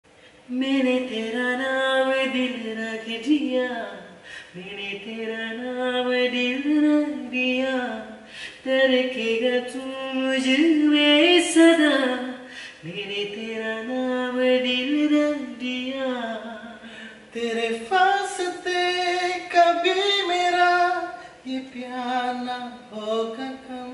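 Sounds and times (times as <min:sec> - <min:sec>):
men singing unaccompanied: 0:00.5 - 0:23.9.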